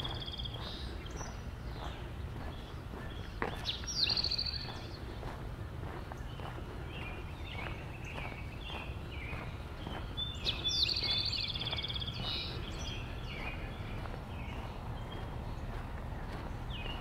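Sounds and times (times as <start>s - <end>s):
bird singing rapid trill: 0.0s - 17.0s
footsteps walking: 0.0s - 17.0s
songbirds chirping: 0.0s - 17.0s.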